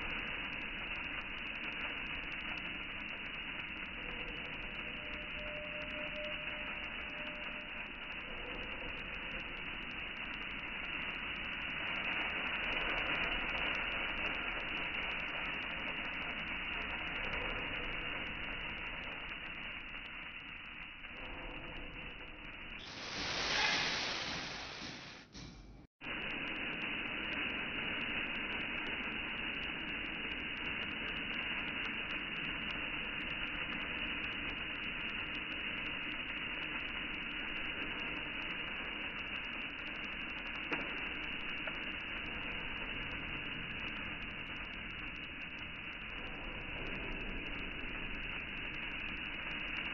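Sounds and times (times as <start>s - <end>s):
rice grains pouring into a pot: 0.0s - 25.3s, 26.1s - 49.9s.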